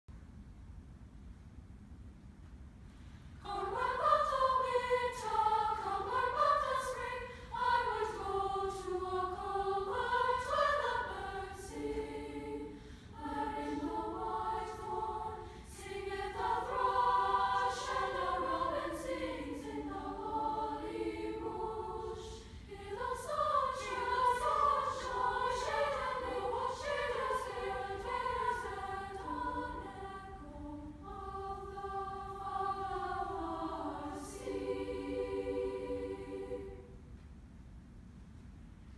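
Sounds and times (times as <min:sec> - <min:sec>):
women's choir singing: 0:03.4 - 0:37.0.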